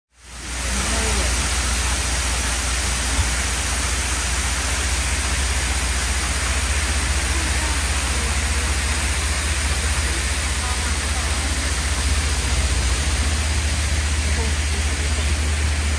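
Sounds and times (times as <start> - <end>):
waterfall rushing: 0.2 - 15.9
low rumble: 1.4 - 15.9.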